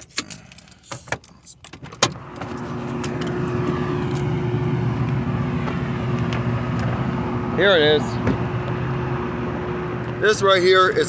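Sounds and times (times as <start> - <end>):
engine hum: 1.8 - 11.0.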